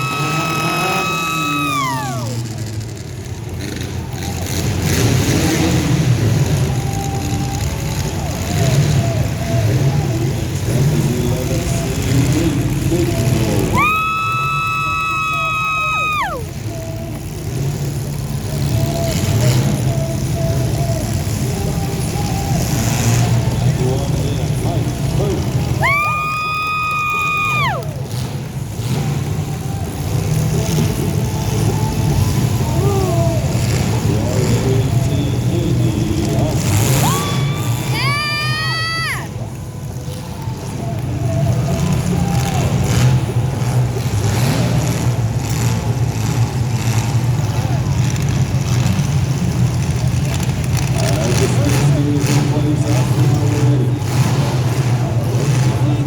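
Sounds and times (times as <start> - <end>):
car engines rumbling: 0.0 - 56.0.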